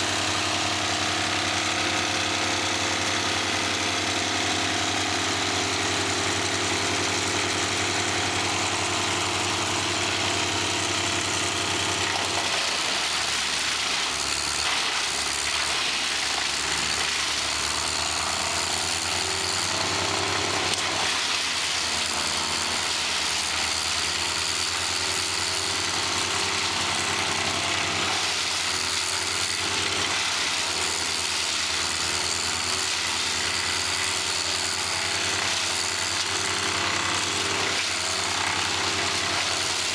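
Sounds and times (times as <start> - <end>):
wood chipper grinding: 0.0 - 39.9.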